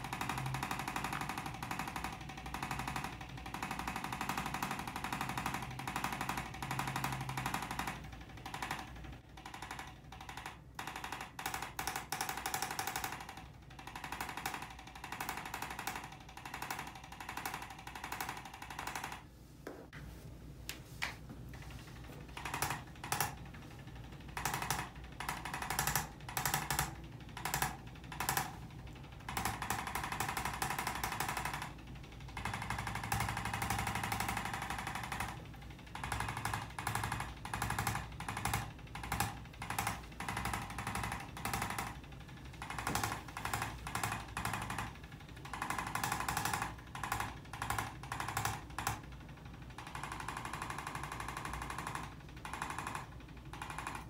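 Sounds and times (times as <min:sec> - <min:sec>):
rapid rattling percussive taps: 0:00.0 - 0:19.2, 0:21.7 - 0:54.0.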